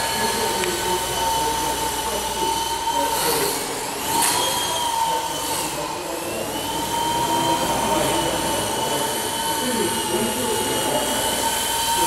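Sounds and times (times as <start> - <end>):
rc helicopter rotor whine: 0.0 - 12.0.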